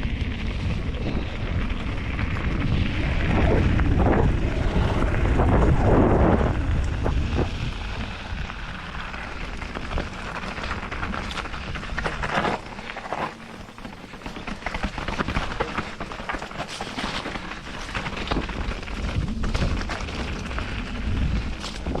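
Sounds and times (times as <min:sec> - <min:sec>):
wind buffeting microphone: 0:00.0 - 0:16.2, 0:17.4 - 0:22.0
tyres rolling over ground: 0:00.0 - 0:22.0.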